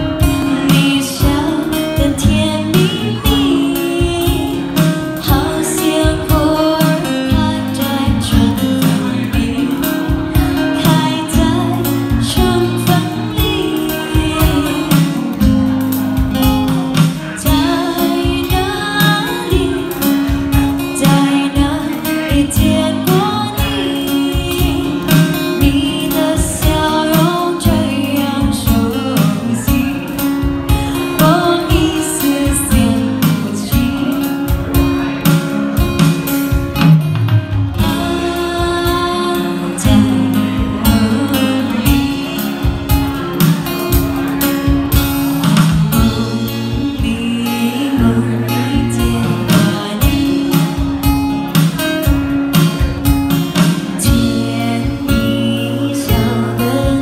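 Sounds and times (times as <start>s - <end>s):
woman singing: 0.0s - 35.5s, 37.8s - 43.6s, 45.5s - 57.0s
steady drum beat: 0.0s - 57.0s
strummed acoustic guitar: 0.0s - 57.0s.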